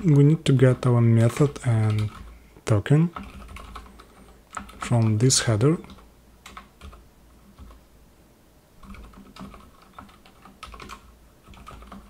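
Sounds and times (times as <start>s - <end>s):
keyboard typing: 0.0s - 2.4s, 3.1s - 7.8s, 8.8s - 12.0s.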